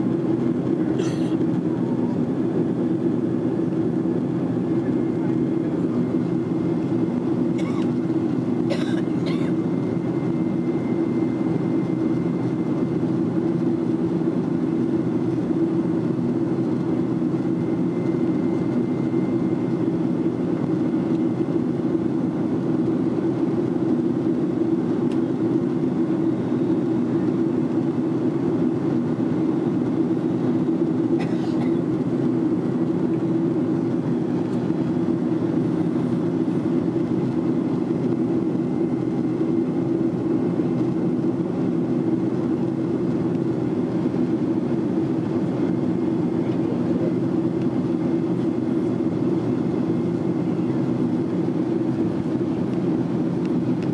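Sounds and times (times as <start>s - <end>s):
airplane cabin engine drone: 0.0s - 53.9s.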